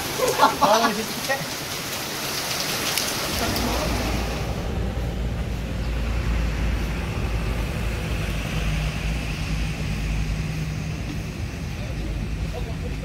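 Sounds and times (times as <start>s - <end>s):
slowly moving car rumble: 1.5s - 13.0s.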